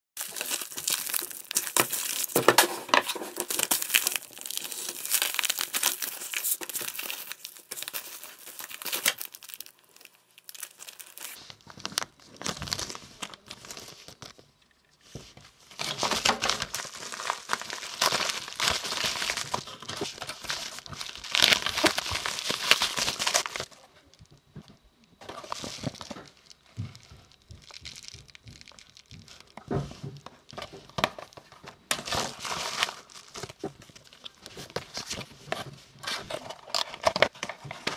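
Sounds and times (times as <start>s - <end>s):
packaging crinkling and tearing: 0.2s - 14.5s, 15.1s - 24.4s, 25.2s - 37.9s.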